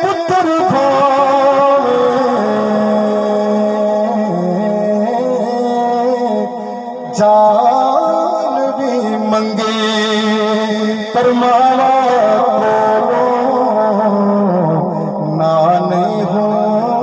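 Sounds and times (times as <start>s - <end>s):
man singing through loudspeaker: 0.0s - 17.0s.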